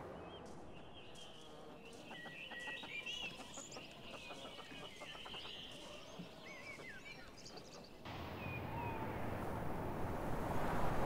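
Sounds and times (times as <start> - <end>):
birds chirping and trilling: 0.2 - 9.4.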